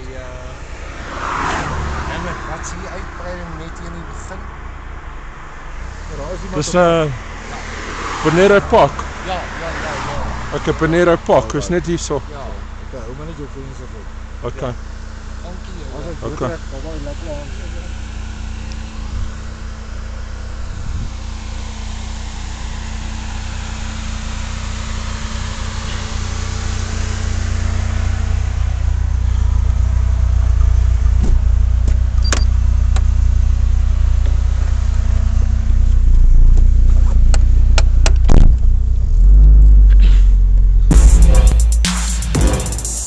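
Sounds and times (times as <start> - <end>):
car engine rumble: 0.0 - 43.0
road noise: 0.0 - 43.0.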